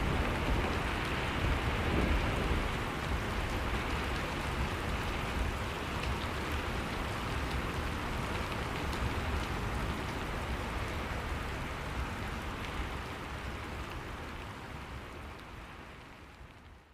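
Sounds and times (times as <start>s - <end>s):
steady rain: 0.0s - 16.9s.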